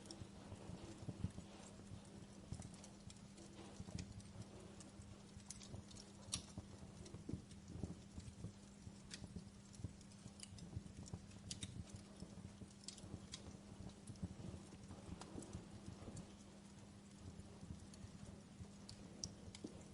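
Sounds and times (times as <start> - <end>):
campfire crackling: 0.0 - 19.9
steady low hum: 0.0 - 19.9.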